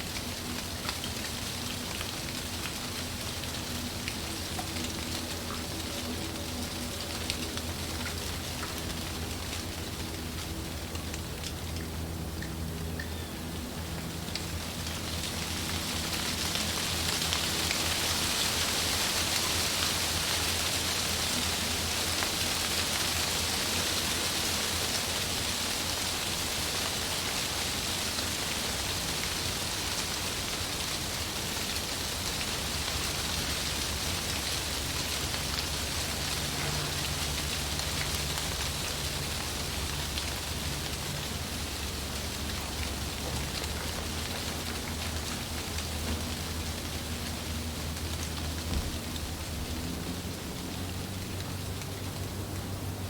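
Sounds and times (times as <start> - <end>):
wind rustling through leaves: 0.0 - 53.0.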